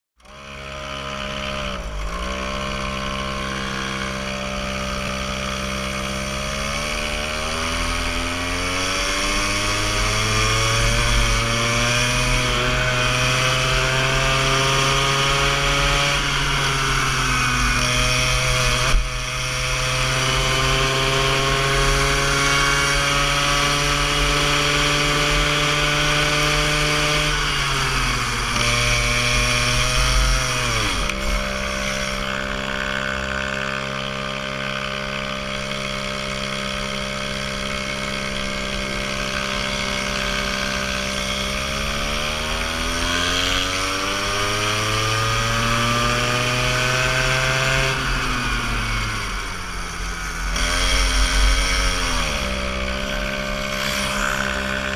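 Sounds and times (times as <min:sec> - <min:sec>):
go-kart engine accelerating: 0:00.2 - 0:54.9.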